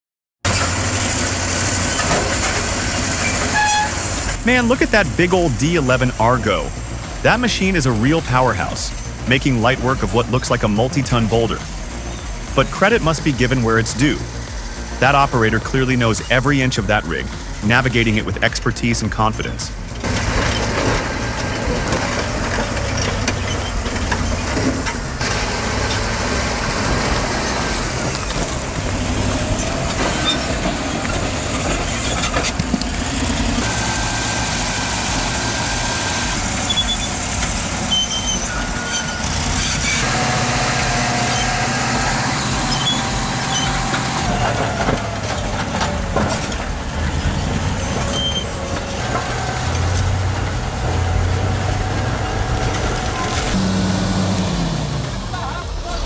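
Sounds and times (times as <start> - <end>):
bulldozer diesel engine under load: 0.4 - 56.0
high-pitched machinery squealing: 0.5 - 56.0.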